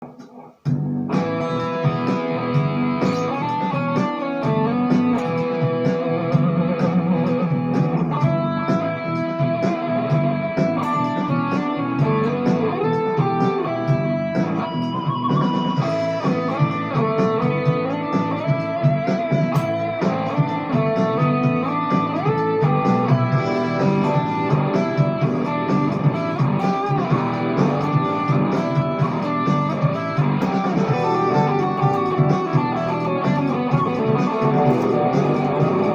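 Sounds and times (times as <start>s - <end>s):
electric guitar lead lines: 0.0s - 35.9s
dense lower musical layer: 0.7s - 35.9s.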